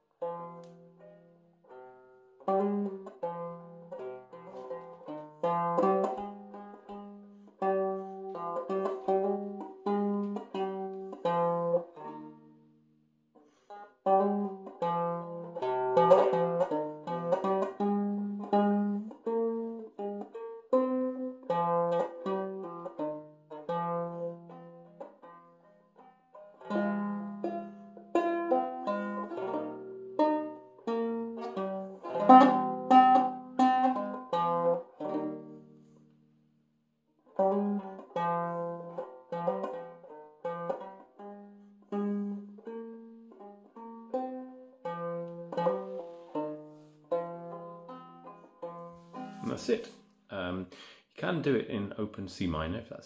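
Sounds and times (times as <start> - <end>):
banjo picking slow minor melody: 0.0 - 52.1.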